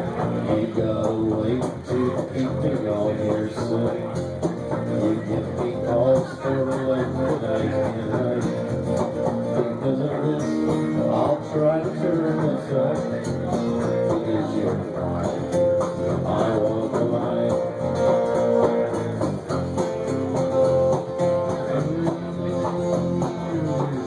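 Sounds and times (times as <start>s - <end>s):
strummed acoustic guitar country music: 0.0s - 24.0s.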